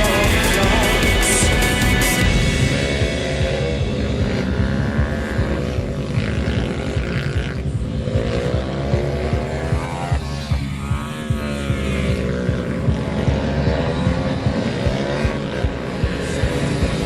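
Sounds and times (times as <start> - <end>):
pit bike engines buzzing: 0.0 - 17.0.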